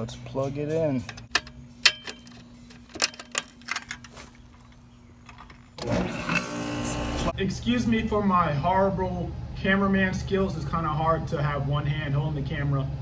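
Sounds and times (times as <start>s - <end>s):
condenser unit humming: 0.8s - 13.0s.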